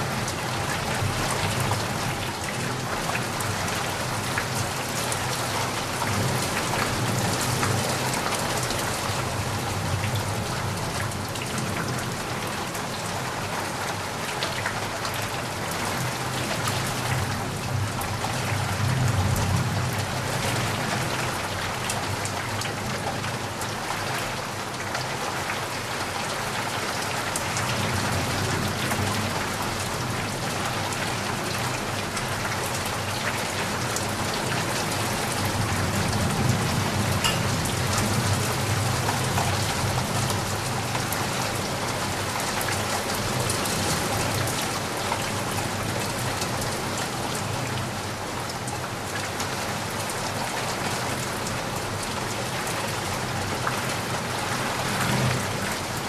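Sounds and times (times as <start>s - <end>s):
heavy rain patter: 0.0s - 56.0s.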